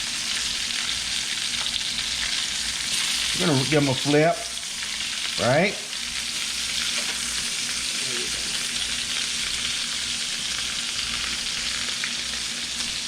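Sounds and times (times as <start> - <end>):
hot dogs sizzling: 0.0 - 13.0.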